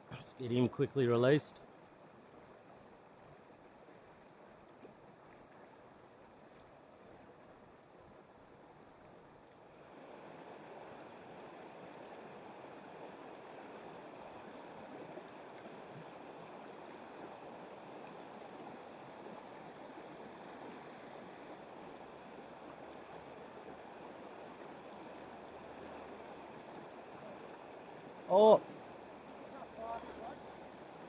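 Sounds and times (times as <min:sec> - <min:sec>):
river water running over stones: 0:00.4 - 0:31.0.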